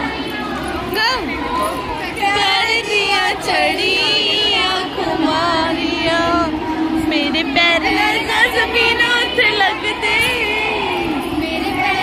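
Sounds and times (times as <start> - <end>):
crowd voices: 0.0 - 12.0
women singing together: 0.0 - 12.0.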